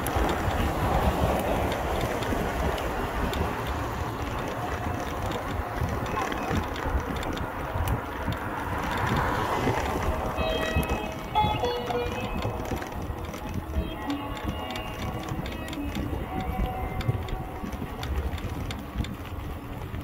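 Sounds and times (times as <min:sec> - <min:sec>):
rolling rumble: 0:00.0 - 0:20.0
wind noise: 0:00.0 - 0:20.0.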